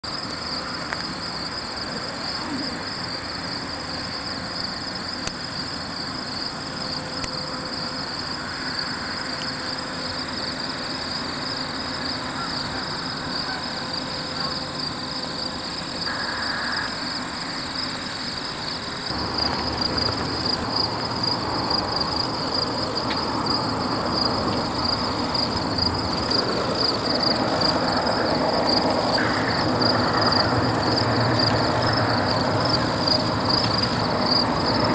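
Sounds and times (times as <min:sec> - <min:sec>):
continuous rushing noise: 0:00.0 - 0:34.9
high-pitched insect trill: 0:00.0 - 0:34.9.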